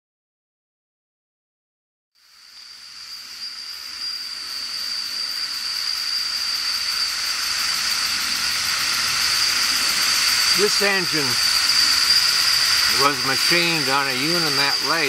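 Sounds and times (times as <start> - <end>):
steam engine hissing: 2.2 - 15.0
thin high whine: 2.2 - 15.0.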